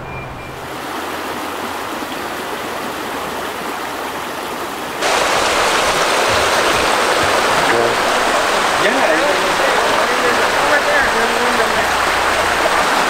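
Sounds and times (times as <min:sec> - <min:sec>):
stream rushing over rocks: 0:00.6 - 0:13.0.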